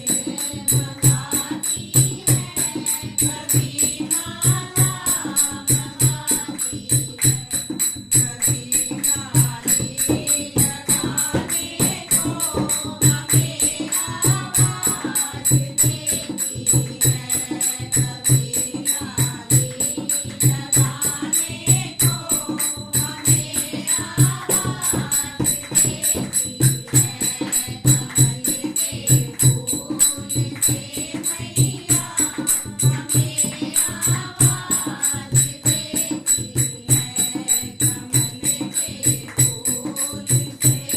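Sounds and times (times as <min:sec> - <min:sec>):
jingling tambourine: 0:00.0 - 0:40.9
steady drumbeat: 0:00.0 - 0:40.9
voices singing devotional song: 0:00.0 - 0:40.9.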